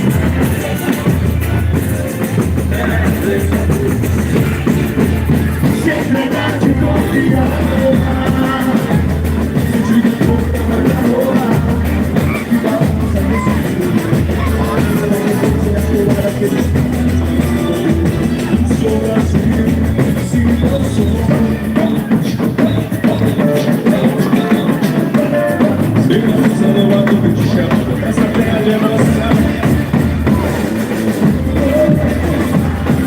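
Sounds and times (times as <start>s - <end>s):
amplified singing and instruments: 0.0s - 33.0s
heavy drum beat: 0.0s - 33.0s.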